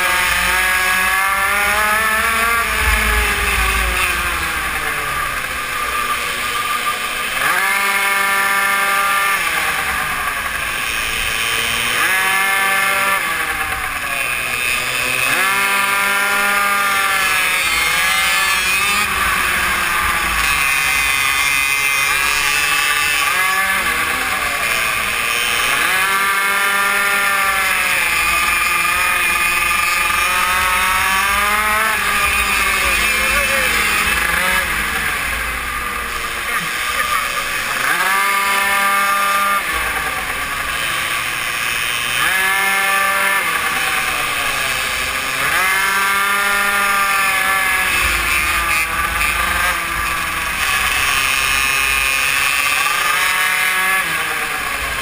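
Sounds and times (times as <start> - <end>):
small motorbike engine revving: 0.0 - 55.0.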